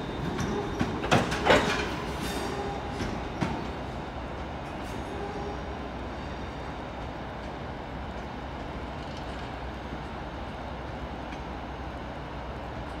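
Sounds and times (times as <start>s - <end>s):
trains rumbling and humming: 0.0s - 13.0s.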